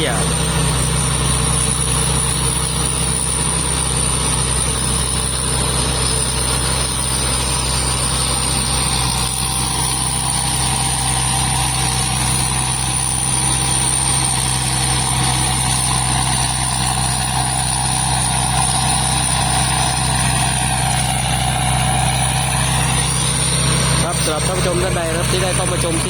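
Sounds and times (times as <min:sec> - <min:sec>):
diesel engine drone: 0:00.0 - 0:26.0
high-pitched whine: 0:00.0 - 0:26.0.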